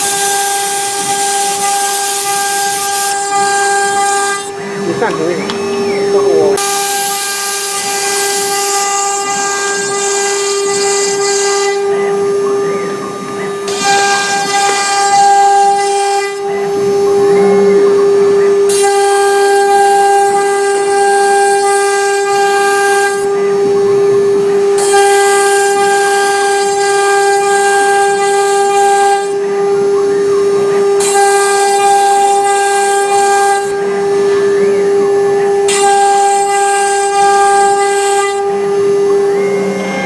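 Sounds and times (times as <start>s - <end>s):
router spindle whine: 0.0s - 40.0s.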